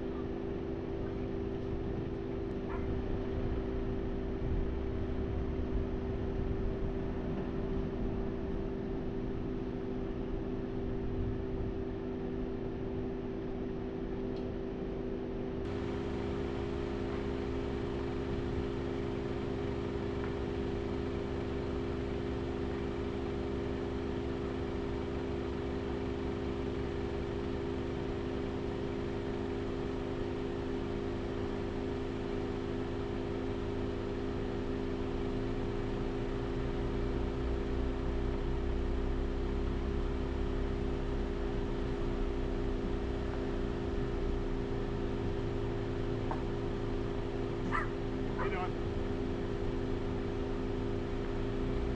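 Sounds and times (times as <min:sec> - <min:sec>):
vehicle drone: 0:00.0 - 0:51.9.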